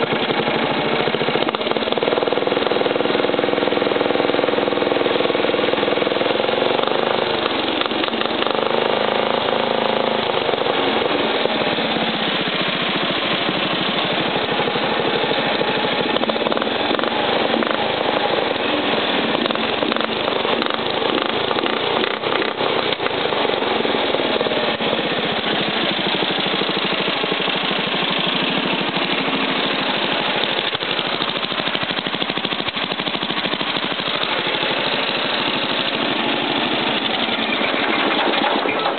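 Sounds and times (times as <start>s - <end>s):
lawn tractor engine popping: 0.0s - 38.9s.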